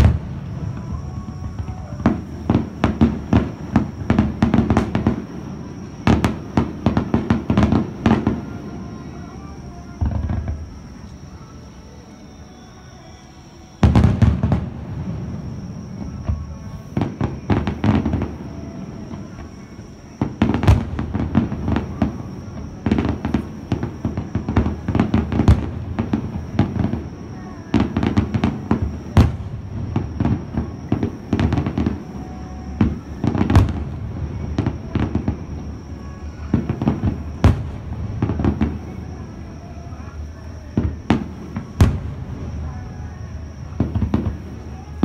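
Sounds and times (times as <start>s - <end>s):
fireworks booming: 0.0s - 45.0s
fireworks crackling: 0.0s - 45.0s.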